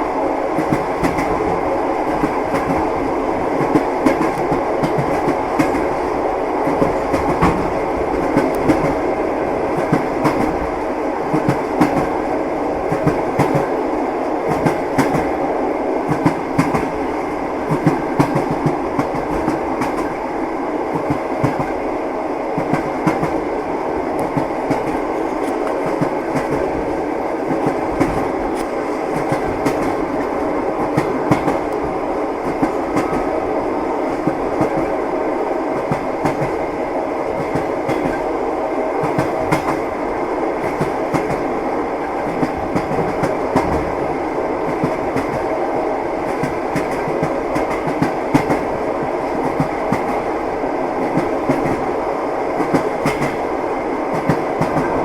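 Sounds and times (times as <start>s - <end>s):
train wheels clattering over rails: 0.5s - 15.4s, 16.0s - 20.3s, 20.9s - 21.8s, 22.5s - 33.4s, 35.7s - 36.6s, 37.2s - 38.3s, 39.0s - 50.4s, 51.0s - 51.9s, 52.5s - 55.0s.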